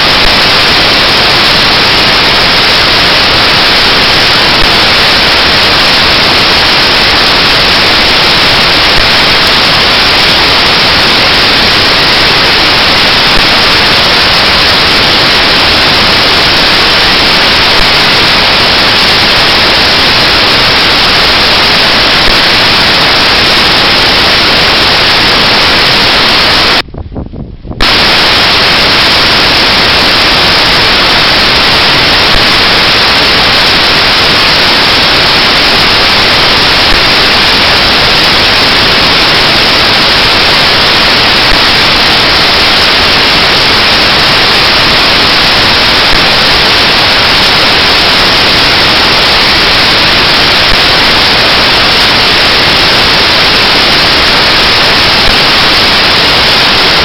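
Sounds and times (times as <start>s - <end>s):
static hiss: 0.0s - 26.8s, 27.7s - 57.0s.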